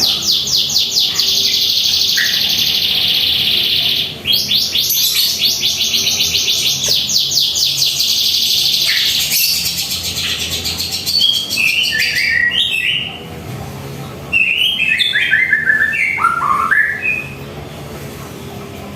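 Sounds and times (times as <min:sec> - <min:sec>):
bird singing: 0:00.0 - 0:13.3, 0:14.3 - 0:18.8.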